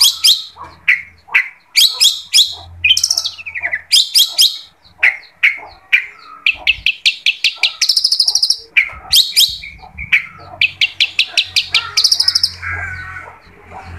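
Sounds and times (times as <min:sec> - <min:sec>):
shrike harsh chattering: 0:00.0 - 0:13.6
rattling bird trills: 0:00.0 - 0:13.9.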